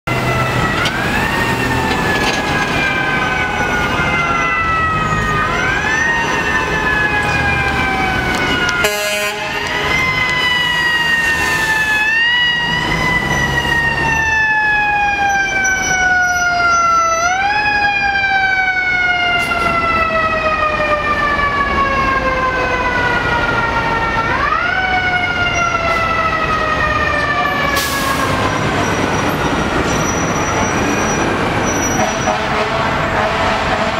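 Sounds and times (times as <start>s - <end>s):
city traffic noise: 0.0s - 33.9s.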